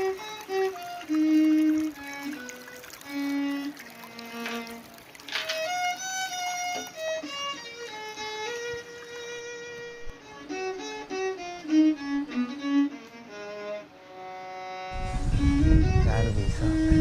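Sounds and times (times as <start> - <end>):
fiddle melody: 0.0 - 17.0.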